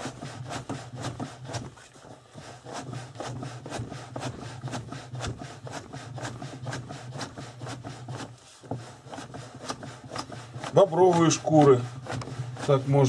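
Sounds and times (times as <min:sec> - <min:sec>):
hide scraping against wood: 0:00.0 - 0:13.0.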